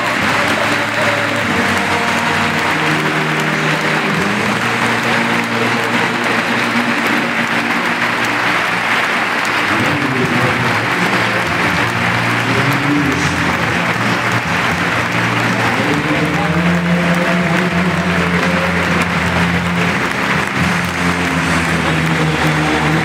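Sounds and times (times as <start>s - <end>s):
stadium crowd applauding and cheering: 0.0s - 23.0s.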